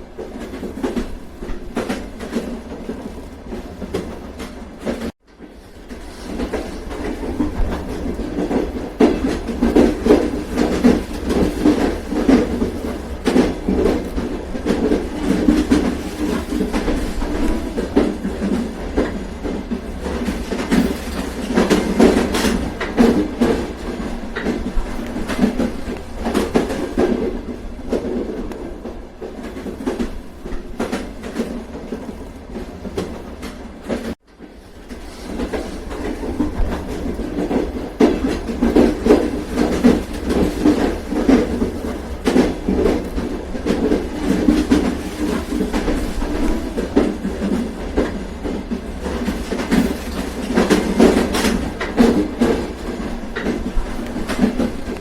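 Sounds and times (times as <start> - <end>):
train rumble: 0.0 - 55.0
train wheels clattering on rails: 0.0 - 55.0.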